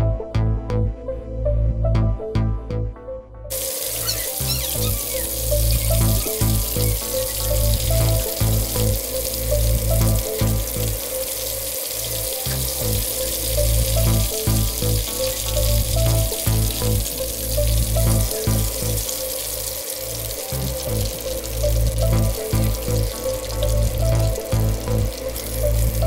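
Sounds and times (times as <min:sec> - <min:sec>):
background music with pulsing bass: 0:00.0 - 0:26.0
hot oil sizzling: 0:03.5 - 0:26.0.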